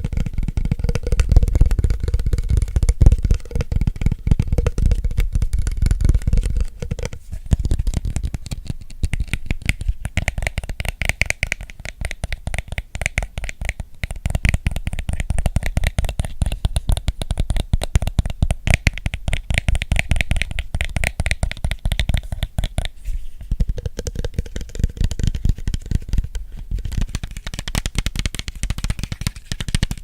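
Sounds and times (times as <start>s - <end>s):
finger and nail tapping: 0.0s - 23.0s, 23.6s - 30.0s.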